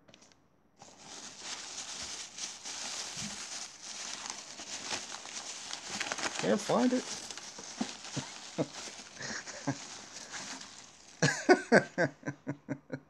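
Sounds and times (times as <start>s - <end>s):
paper crinkling and rustling: 0.8s - 11.7s.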